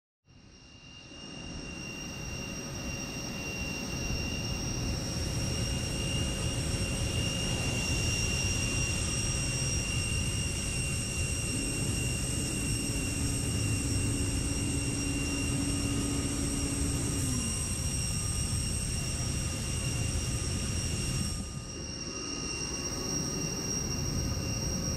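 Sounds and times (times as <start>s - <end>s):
jet turbine whine: 0.3s - 24.9s
low hum sliding down in pitch: 1.2s - 24.9s.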